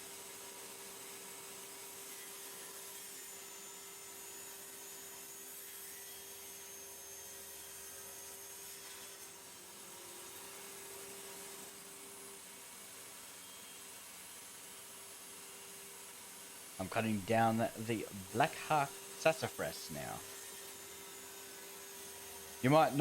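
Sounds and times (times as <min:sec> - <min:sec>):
table saw cutting wood: 0:00.0 - 0:23.0.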